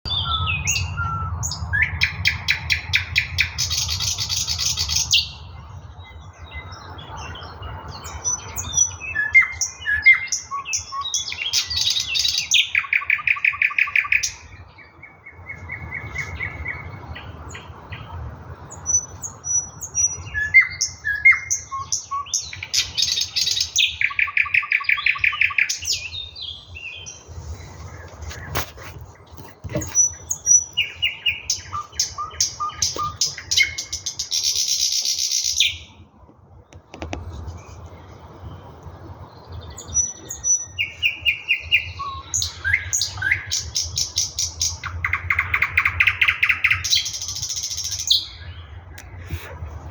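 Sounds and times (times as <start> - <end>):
nightingale singing: 0.1 - 36.1, 37.3 - 49.2.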